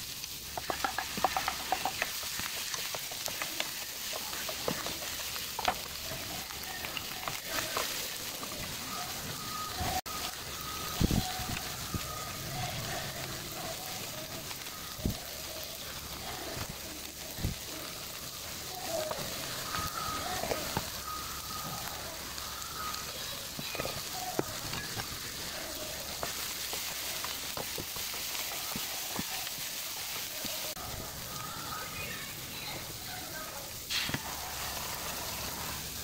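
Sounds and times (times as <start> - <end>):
spatula stirring in pan: 0.0 - 33.2
food sizzling in oil: 0.0 - 36.0.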